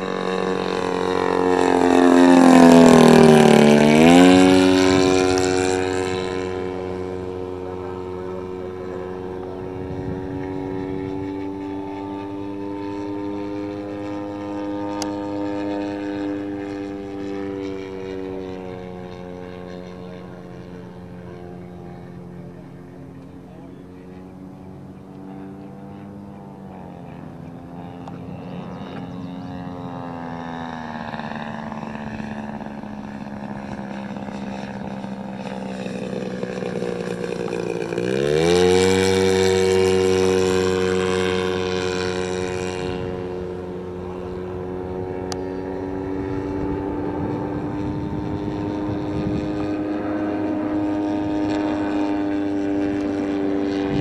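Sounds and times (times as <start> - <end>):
model plane propeller droning: 0.0 - 54.0.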